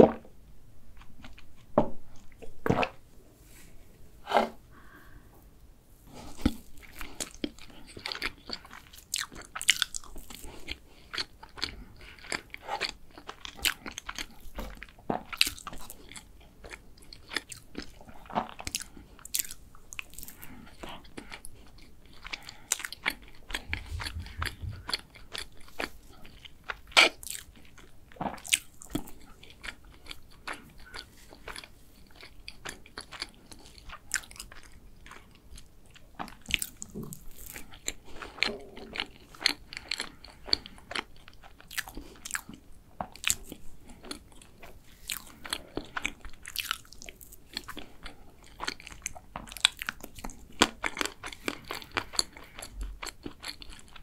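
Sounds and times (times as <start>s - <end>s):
person chewing: 0.9s - 2.9s, 6.1s - 54.0s.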